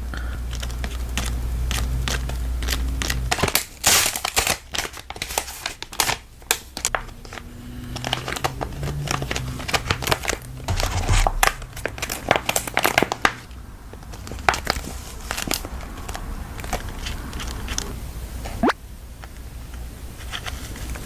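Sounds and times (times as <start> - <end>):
packaging crinkling: 0.4 - 18.6.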